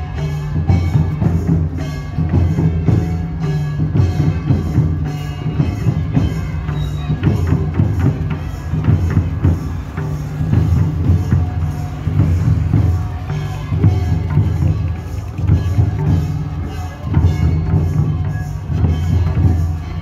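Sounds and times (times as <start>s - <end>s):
hand drums beating: 0.0s - 20.0s
procession folk music: 0.0s - 20.0s.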